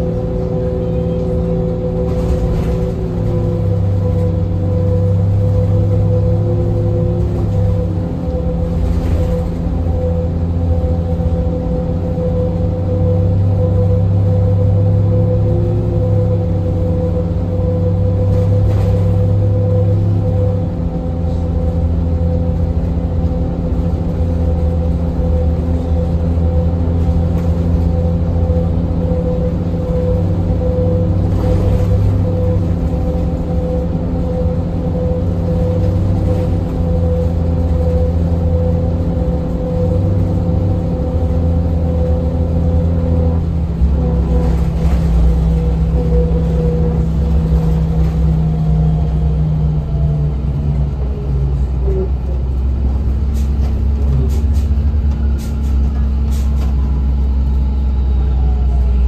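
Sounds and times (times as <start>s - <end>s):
bus drivetrain drone: 0.0s - 59.0s.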